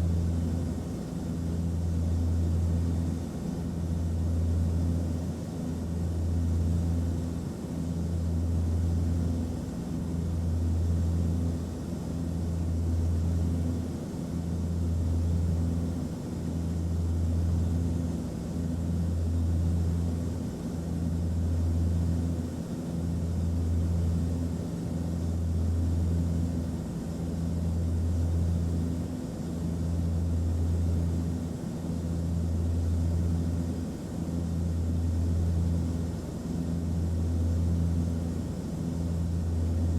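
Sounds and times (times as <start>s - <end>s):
airliner engine drone: 0.0s - 39.9s.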